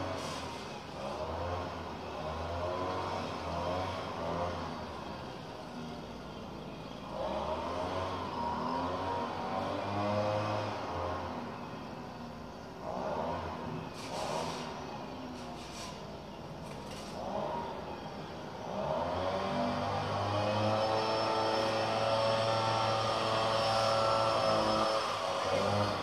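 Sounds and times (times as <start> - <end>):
leaf blower engine revving: 0.0 - 11.7, 12.8 - 26.0.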